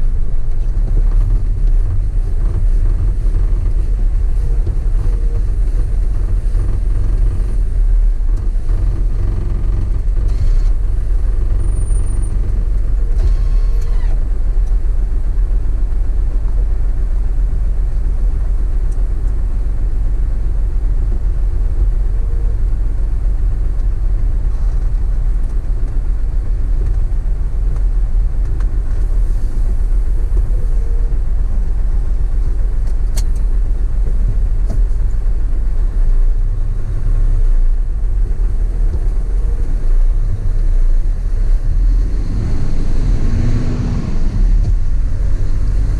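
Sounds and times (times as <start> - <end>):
road noise: 0.0 - 45.9
vehicle engine rumble: 0.0 - 45.9.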